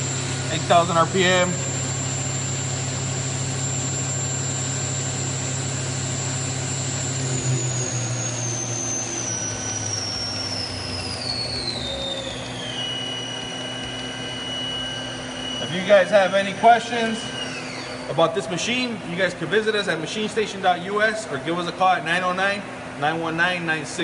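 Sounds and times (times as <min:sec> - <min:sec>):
machine spindle whine: 0:00.0 - 0:24.0
motor hum: 0:00.0 - 0:24.0.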